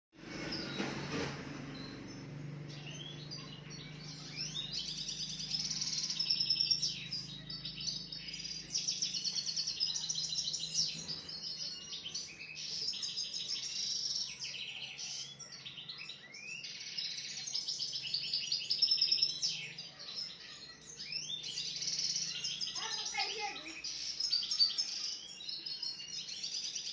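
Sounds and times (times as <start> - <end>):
songbird trilling and chirping: 1.7 - 26.9.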